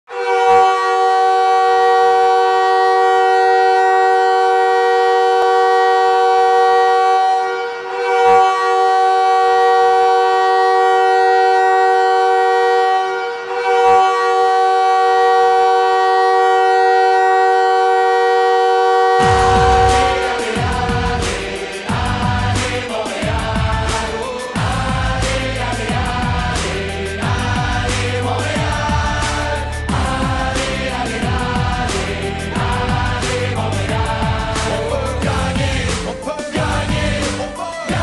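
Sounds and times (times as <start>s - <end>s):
horn blaring a chord: 0.1s - 38.0s.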